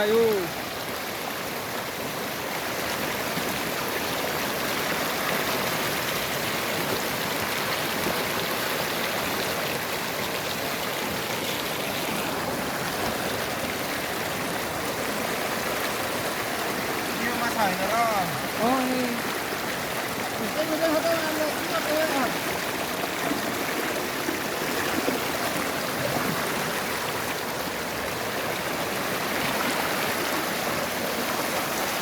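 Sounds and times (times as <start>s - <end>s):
small river flowing: 0.0s - 32.0s.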